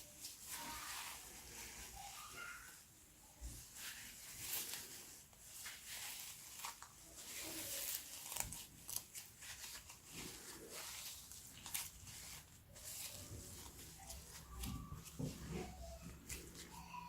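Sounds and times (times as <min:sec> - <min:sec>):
slime crackling and squelching: 0:00.0 - 0:17.0.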